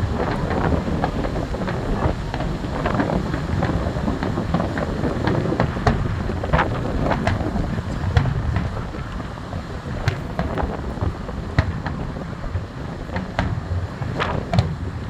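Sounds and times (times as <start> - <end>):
fireworks bursting: 0.0 - 15.0
wind buffeting microphone: 0.0 - 15.0.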